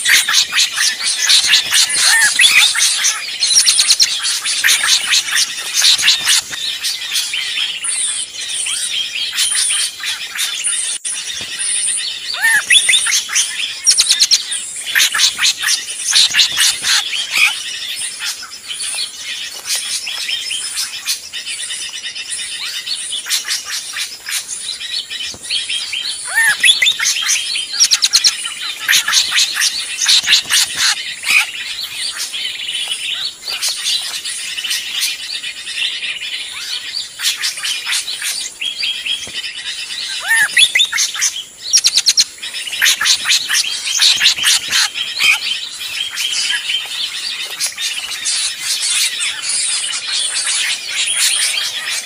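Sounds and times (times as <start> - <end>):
birds chirping noisily: 0.0 - 52.0.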